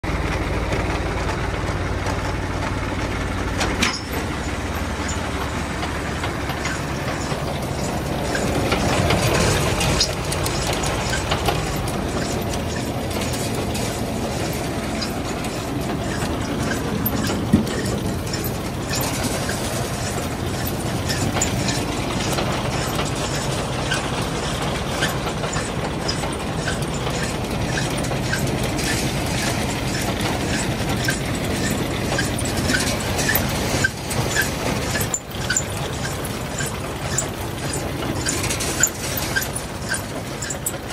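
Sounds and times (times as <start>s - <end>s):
harvester rattling and clattering: 0.0s - 40.9s
tractor mechanical hum: 0.0s - 40.9s.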